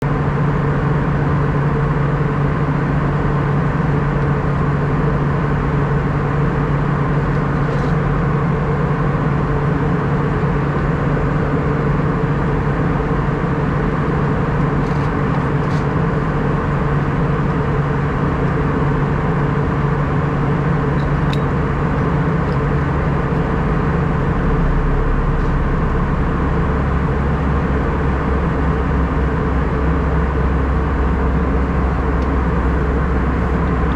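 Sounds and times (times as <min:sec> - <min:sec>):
airliner cabin engine drone: 0:00.0 - 0:33.9.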